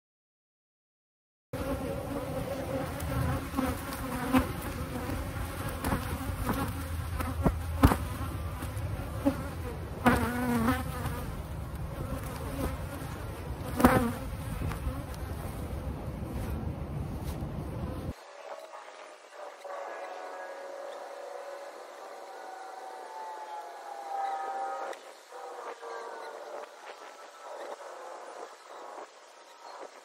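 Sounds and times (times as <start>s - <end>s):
bees buzzing: 1.6s - 15.4s, 17.8s - 29.0s.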